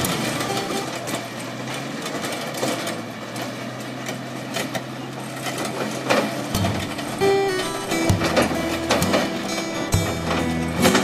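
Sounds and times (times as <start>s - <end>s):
clatter of tracks and breaking rock: 0.0s - 11.0s
diesel engine hum: 0.0s - 11.0s.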